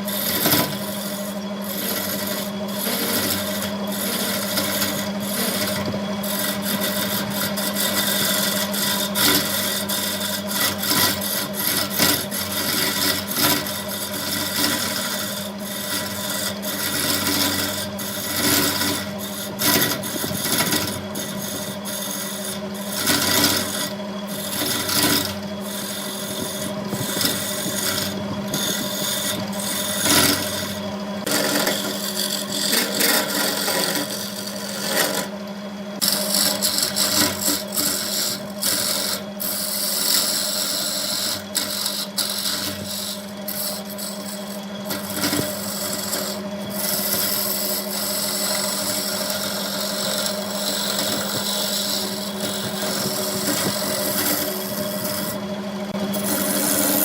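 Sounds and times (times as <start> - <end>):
tool scraping spinning wood: 0.0 - 57.0
wood lathe humming: 0.0 - 57.0.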